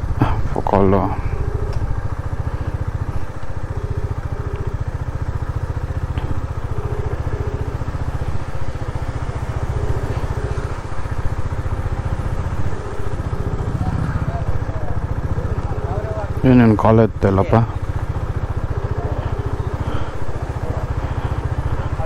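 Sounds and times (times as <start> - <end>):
motorcycle engine running: 0.0 - 22.0
phone ringback double beeps: 1.2 - 22.0.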